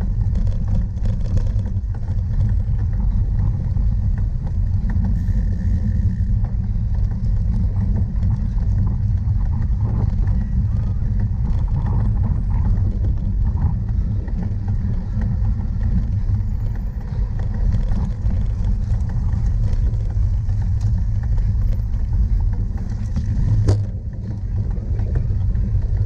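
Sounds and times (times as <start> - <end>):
faint rattles: 0.0 - 26.0
wind buffeting microphone: 0.0 - 26.0.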